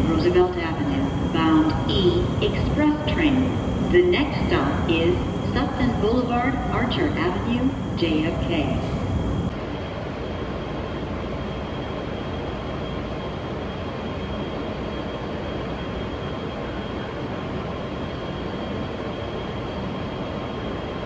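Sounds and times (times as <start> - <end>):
faint steady whine: 0.0 - 20.9
subway car rumble: 0.0 - 21.0.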